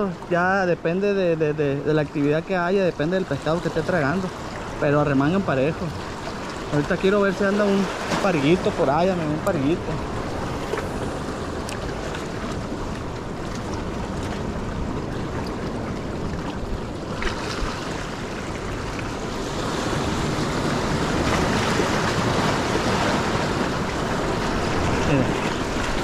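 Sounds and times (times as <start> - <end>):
surf washing around rocks: 0.0 - 26.0
waves breaking against rocks: 0.0 - 26.0.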